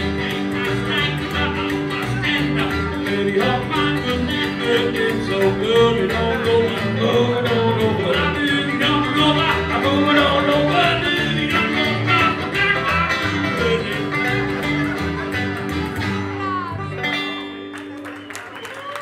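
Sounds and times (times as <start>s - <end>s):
plucked double bass: 0.0s - 17.6s
strummed acoustic guitar: 0.0s - 17.8s
picked banjo: 0.0s - 18.0s.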